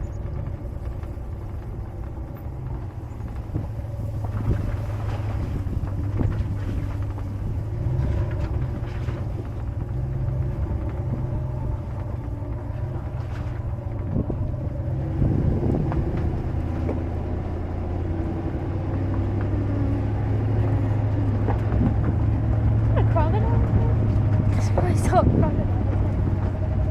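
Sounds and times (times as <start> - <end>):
knocks and rattles: 0.0 - 26.9
vehicle engine droning: 0.0 - 26.9.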